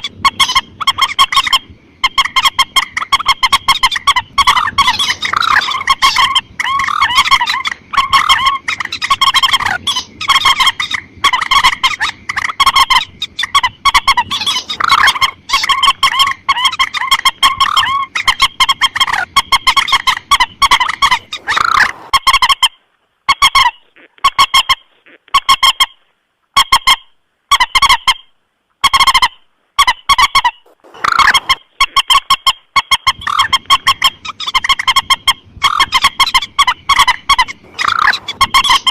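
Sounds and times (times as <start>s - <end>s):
rail bird nasal calls: 0.0s - 25.9s, 28.8s - 38.9s.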